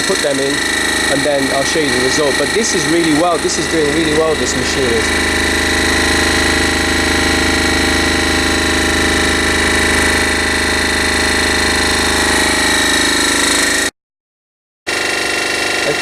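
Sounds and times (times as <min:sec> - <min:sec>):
vibrating tumbler motor humming: 0:00.0 - 0:13.9, 0:14.9 - 0:16.0.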